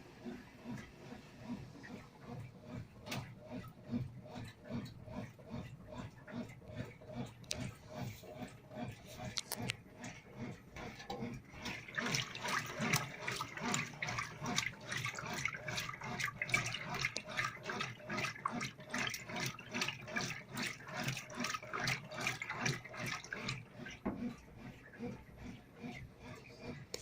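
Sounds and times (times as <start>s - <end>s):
water sloshing in washing machine: 0.0s - 27.0s.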